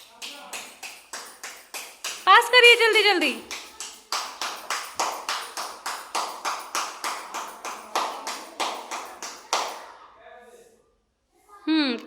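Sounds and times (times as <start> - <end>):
person clapping hands: 0.0 - 9.9.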